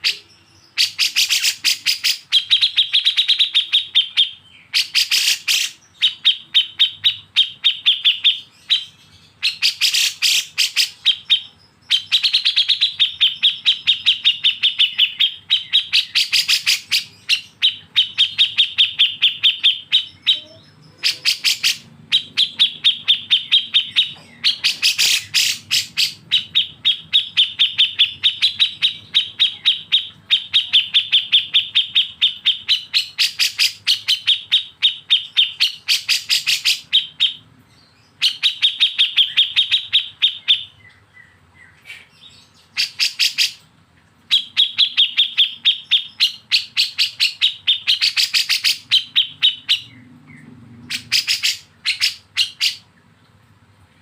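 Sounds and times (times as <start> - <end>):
bulbul song: 0.0 - 43.6, 50.9 - 53.0.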